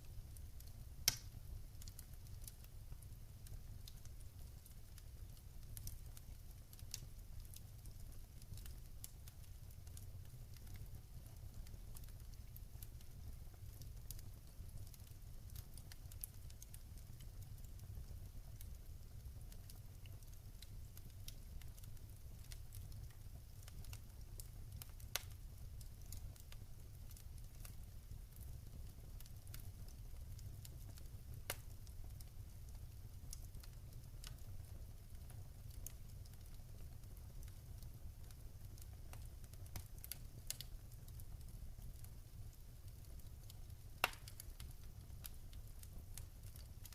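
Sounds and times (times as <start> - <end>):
fire low rumble: 0.0 - 46.9
fire snapping and popping: 0.0 - 46.9.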